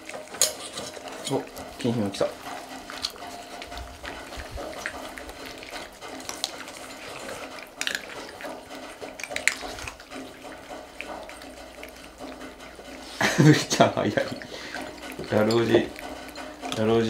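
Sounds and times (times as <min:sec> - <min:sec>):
animals crunching dry kibble: 0:00.0 - 0:17.0
food clinking against bowls: 0:00.0 - 0:17.0.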